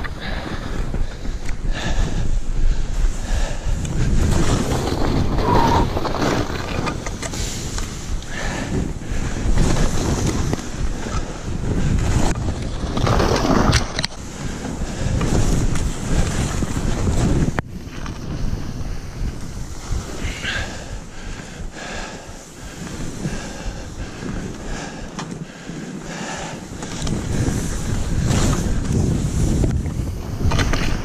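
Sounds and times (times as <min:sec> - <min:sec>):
skis scraping over snow: 0:00.0 - 0:31.0
wind buffeting microphone: 0:00.0 - 0:31.0.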